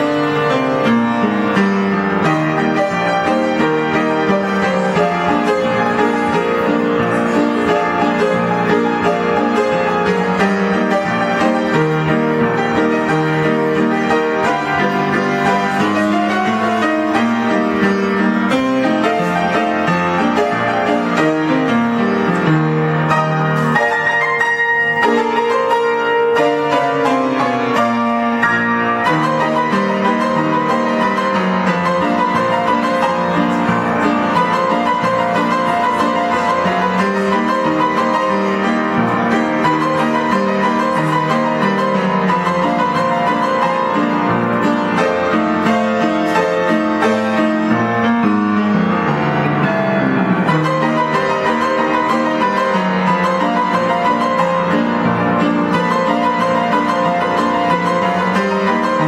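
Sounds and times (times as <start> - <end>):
ragtime piano: 0.0 - 59.0.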